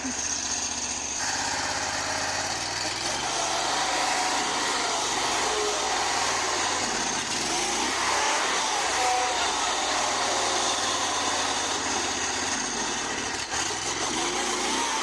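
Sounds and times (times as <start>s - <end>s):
engine running and revving: 0.0s - 15.0s.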